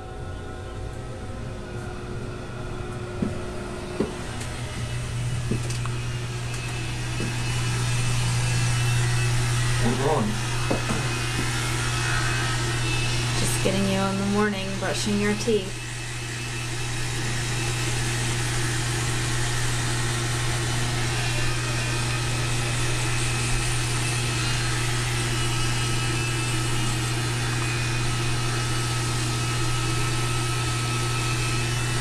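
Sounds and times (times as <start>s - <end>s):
electric toothbrush buzzing: 3.1s - 32.0s.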